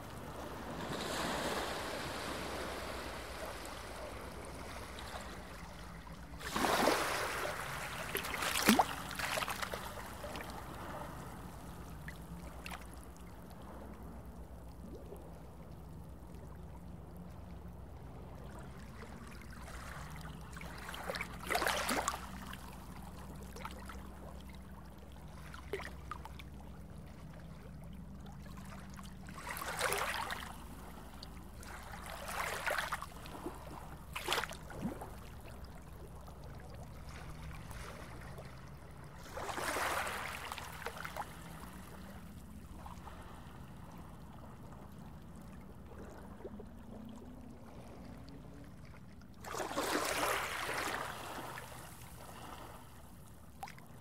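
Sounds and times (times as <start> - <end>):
rushing water swells: 0.0 - 16.6, 17.9 - 26.4, 27.0 - 54.0
steady low underwater hum: 0.0 - 54.0.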